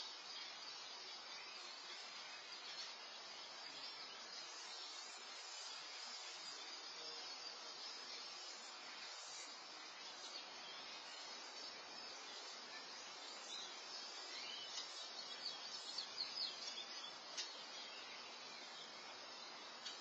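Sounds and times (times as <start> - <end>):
small bird chirping: 0.0 - 20.0
steady high hiss: 0.0 - 20.0.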